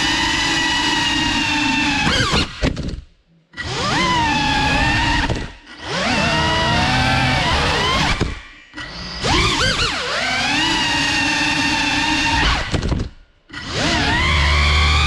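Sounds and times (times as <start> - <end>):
drone motors whining: 0.0 - 2.6, 3.5 - 15.0.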